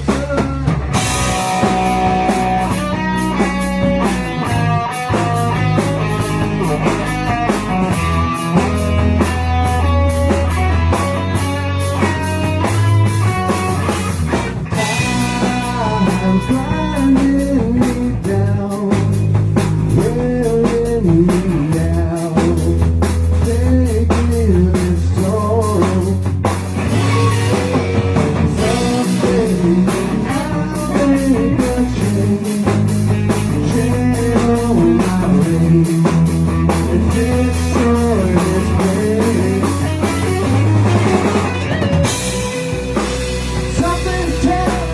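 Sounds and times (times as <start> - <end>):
electric guitar melody: 0.0 - 44.9
rock band playing: 0.0 - 44.9.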